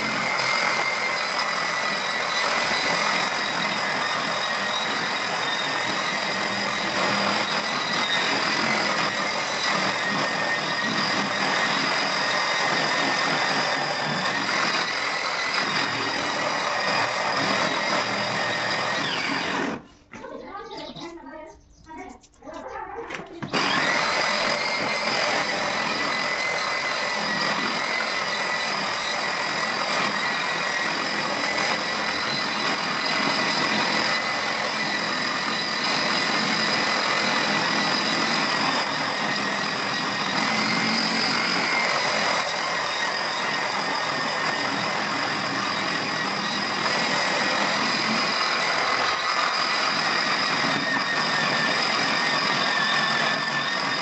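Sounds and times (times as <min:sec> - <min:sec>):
angle grinder motor whine: 0:00.0 - 0:19.9, 0:23.4 - 0:54.0
grinding wet floor: 0:00.0 - 0:21.2, 0:22.5 - 0:54.0.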